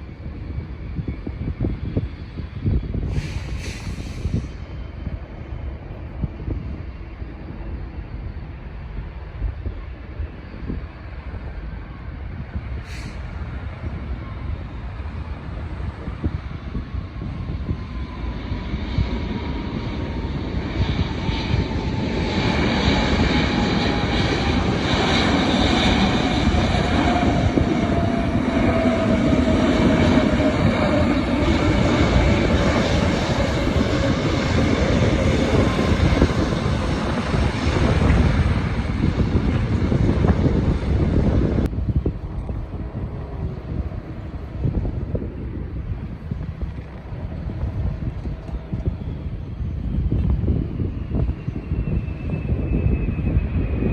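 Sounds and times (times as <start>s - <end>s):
jet airliner engines passing: 0.0s - 53.9s
wind rumbling on microphone: 0.0s - 53.9s.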